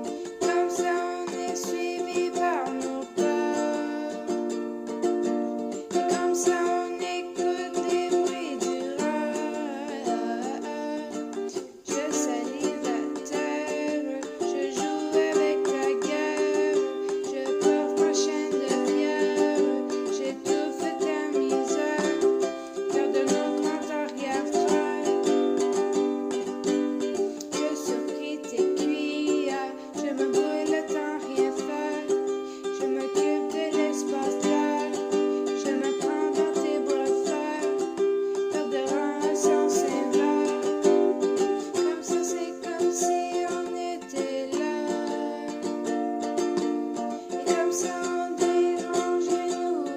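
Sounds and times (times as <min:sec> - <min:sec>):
ukulele strumming chords: 0:00.0 - 0:49.9.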